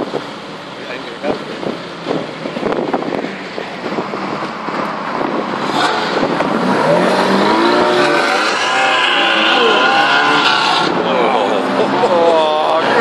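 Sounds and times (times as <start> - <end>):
sports car engine rumble and crackles: 0.0 - 13.0
car engine revving up: 1.2 - 13.0.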